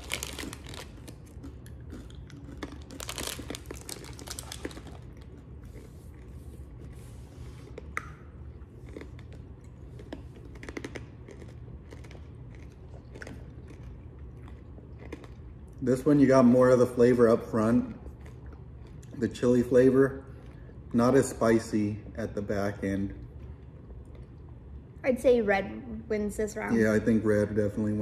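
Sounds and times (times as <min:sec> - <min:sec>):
chewing and crunching brittle: 0:00.0 - 0:24.8.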